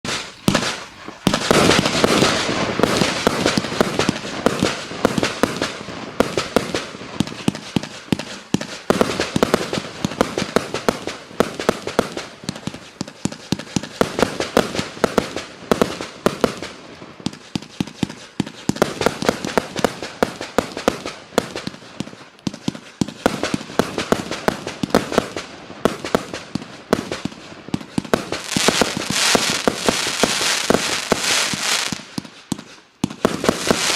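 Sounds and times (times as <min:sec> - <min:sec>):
fireworks shots and bangs: 0:00.0 - 0:33.9.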